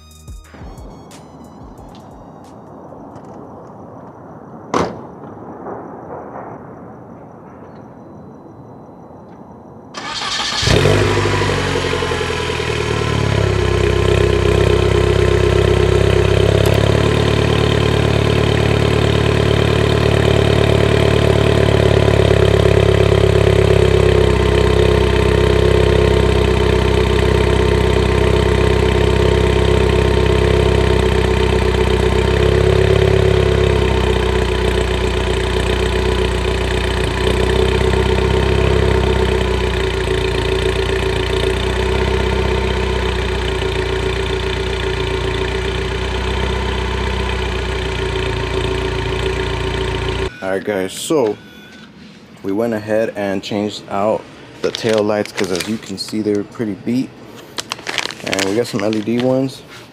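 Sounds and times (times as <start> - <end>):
car engine starting and idling: 10.0 - 59.8.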